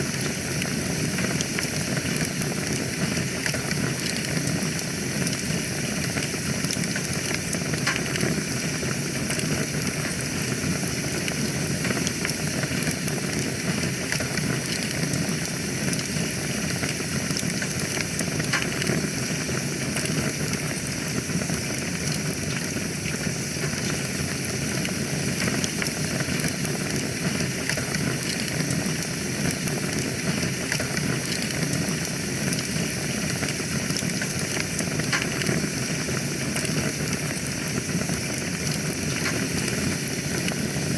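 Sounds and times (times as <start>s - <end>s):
fire crackles and pops: 0.0s - 40.9s
wood fire hissing and rumbling: 0.0s - 40.9s.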